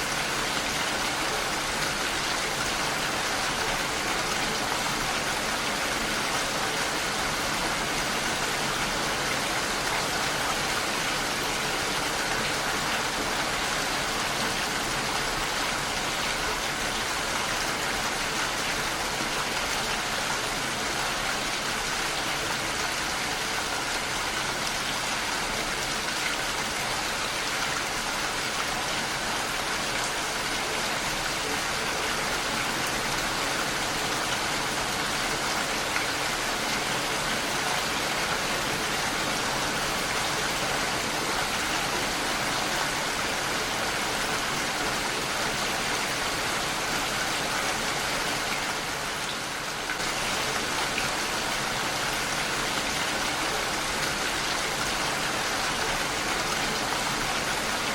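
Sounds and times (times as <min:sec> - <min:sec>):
heavy rain on a window: 0:00.0 - 0:57.9.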